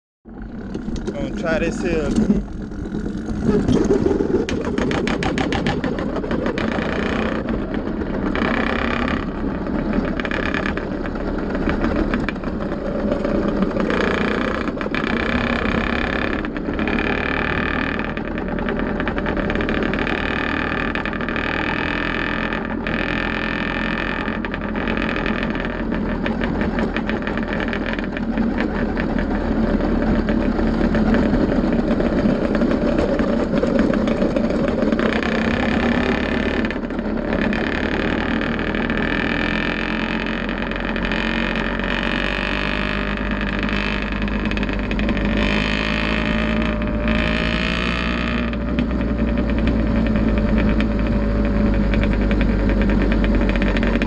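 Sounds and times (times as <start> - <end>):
two-stroke engine under load: 0.3 - 54.0.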